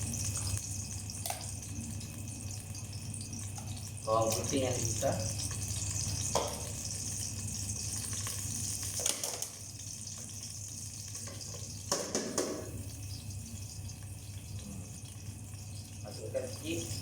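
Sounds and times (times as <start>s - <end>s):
onion and garlic sizzling in oil: 0.0s - 17.0s.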